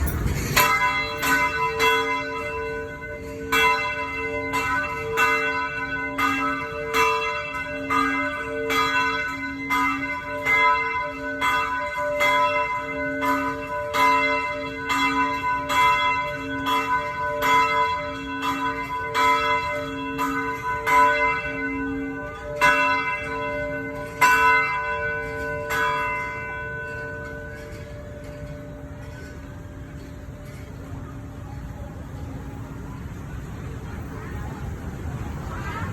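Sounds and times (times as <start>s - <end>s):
church bells pealing: 0.0s - 35.9s.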